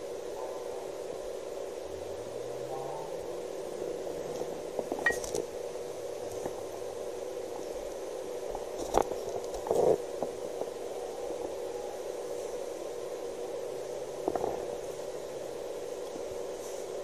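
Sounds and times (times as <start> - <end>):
camera microphone hiss and hum: 0.0 - 17.0.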